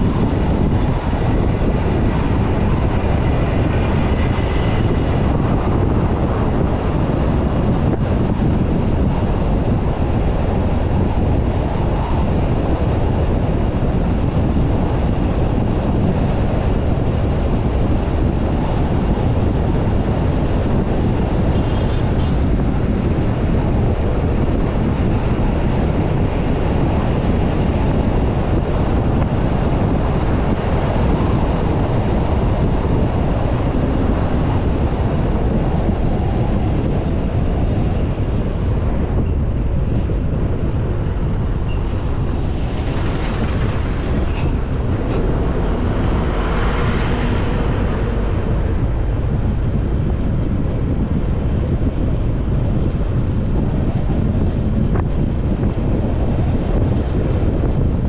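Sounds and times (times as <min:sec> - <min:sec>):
car road and wind noise: 0:00.0 - 0:58.0.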